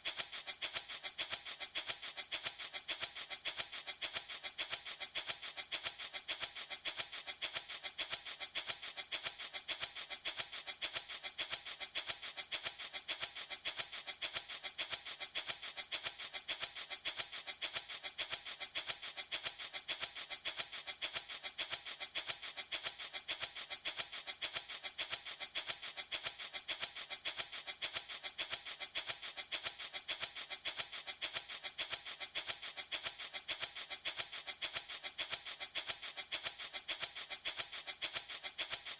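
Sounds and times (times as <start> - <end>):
wooden baby rattle shaken: 0.0 - 38.9.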